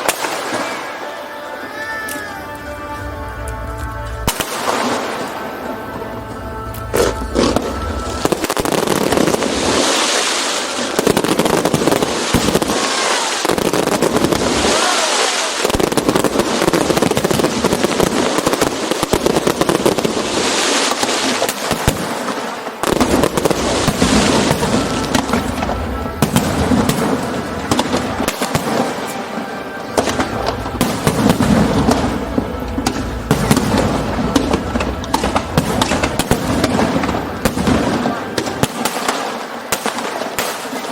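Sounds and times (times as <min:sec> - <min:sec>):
background music: 0:00.0 - 0:40.9
fireworks bangs and crackling: 0:00.0 - 0:40.9
fireworks hissing crackle: 0:00.0 - 0:40.9.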